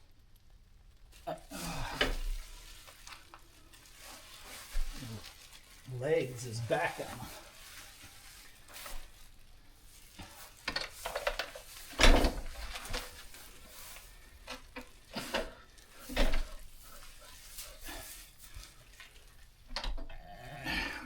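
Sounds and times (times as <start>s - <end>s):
rustling: 0.0s - 20.2s
wet squelching handling sounds: 1.1s - 19.7s.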